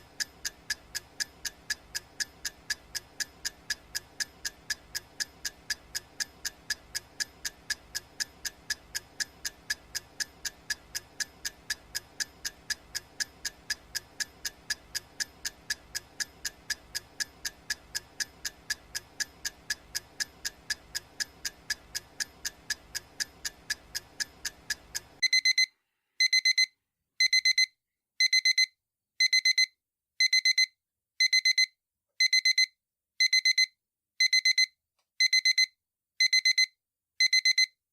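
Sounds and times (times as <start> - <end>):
alarm clock beeping: 0.0 - 24.6, 25.2 - 37.7
clock ticking quickly: 0.0 - 37.7.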